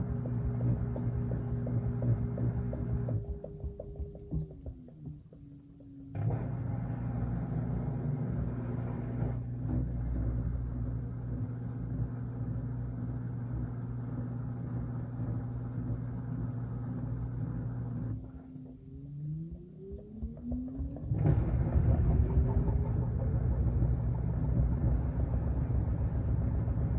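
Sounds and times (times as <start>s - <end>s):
washing machine churning: 0.0s - 26.9s.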